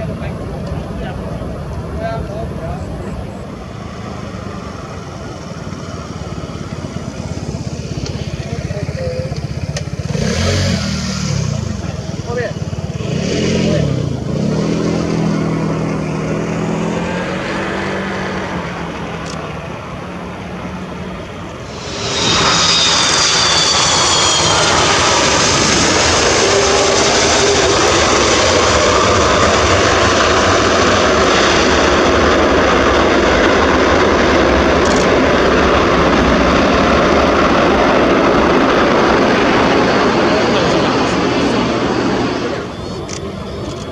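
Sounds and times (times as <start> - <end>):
high falling whine: 0.0 - 43.9
jet engines roaring: 0.0 - 43.9.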